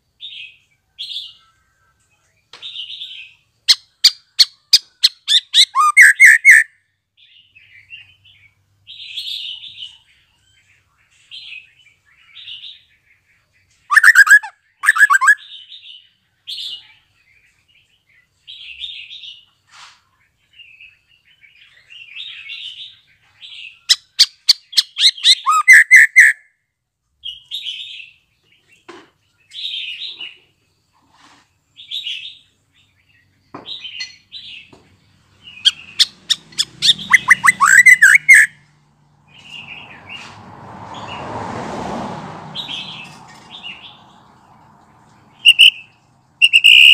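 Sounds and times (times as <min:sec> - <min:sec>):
bird chirping: 0:00.0 - 0:26.4, 0:27.2 - 0:41.3, 0:42.5 - 0:46.9.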